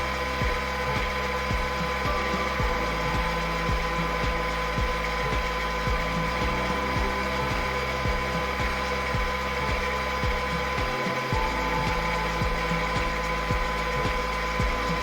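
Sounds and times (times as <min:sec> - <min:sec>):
constant high tones: 0:00.0 - 0:15.0
machine hum: 0:00.0 - 0:15.0.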